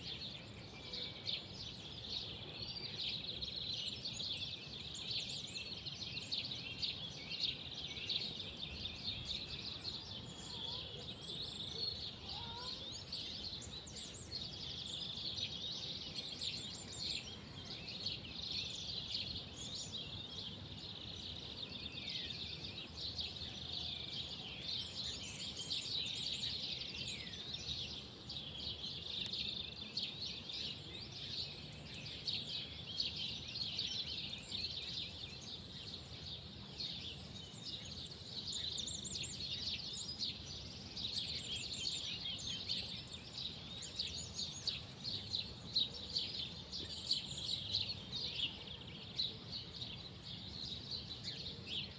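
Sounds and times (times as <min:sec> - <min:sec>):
small birds chirping in chorus: 0:00.0 - 0:51.9.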